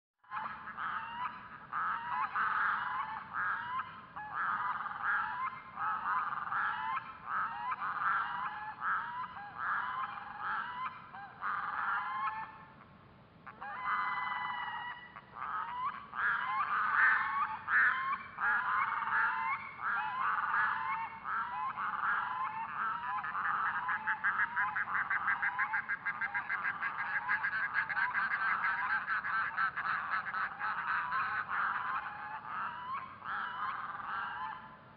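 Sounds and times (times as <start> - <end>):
loon calling: 0.3 - 12.6, 13.5 - 34.8.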